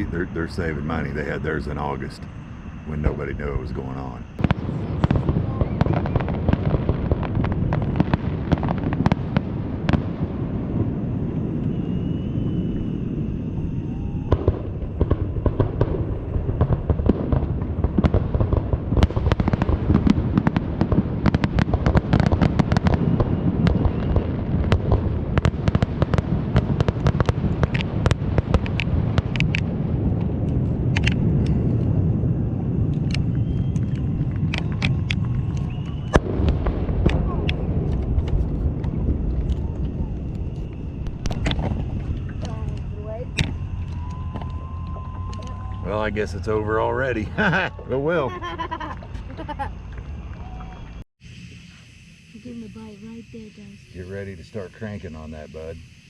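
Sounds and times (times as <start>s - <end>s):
fireworks booming and crackling: 0.0s - 51.0s
low rumble: 0.0s - 56.0s.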